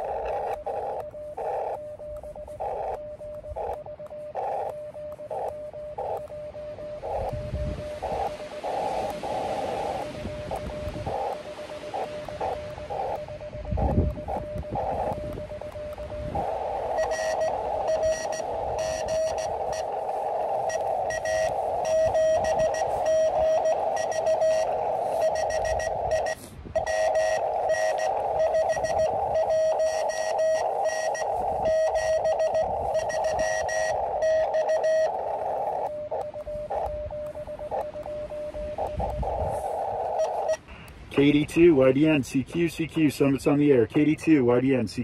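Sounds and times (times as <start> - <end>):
morse code beeps: 0.0 - 45.0
radio receiver hiss: 0.0 - 45.0.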